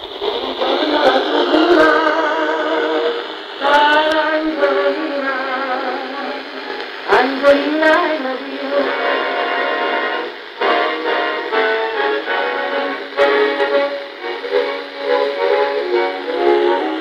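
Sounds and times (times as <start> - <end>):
song on small radio speaker: 0.0 - 17.0.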